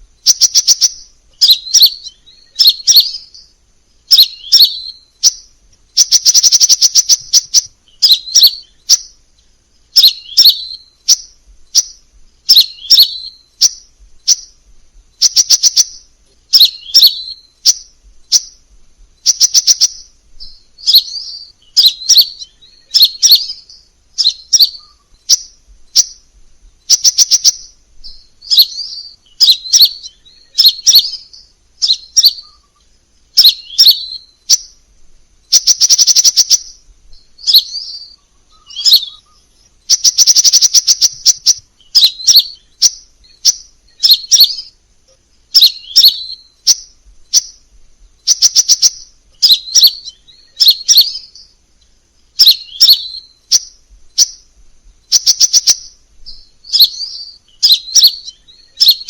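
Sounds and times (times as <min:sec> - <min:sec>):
bird chirping and trilling: 0:00.0 - 0:59.0.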